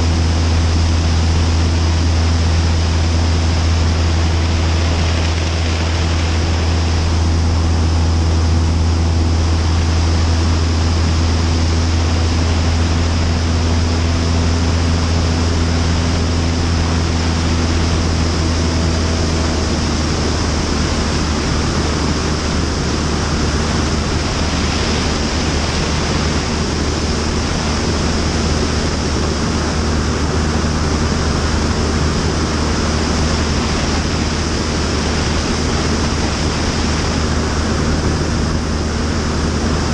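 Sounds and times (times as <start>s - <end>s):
aircraft engine and propeller drone: 0.0s - 39.9s
wind rushing over camera: 0.0s - 39.9s.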